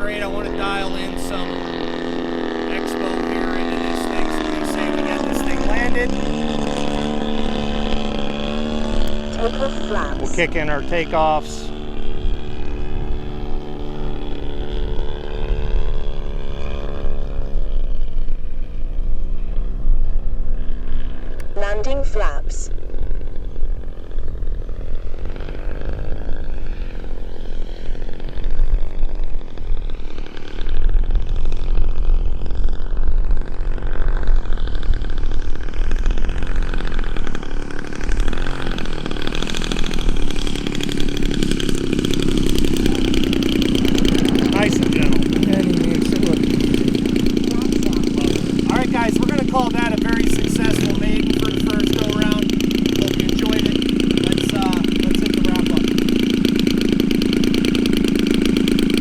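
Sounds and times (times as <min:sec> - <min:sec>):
model airplane engine drone: 0:00.0 - 0:59.0.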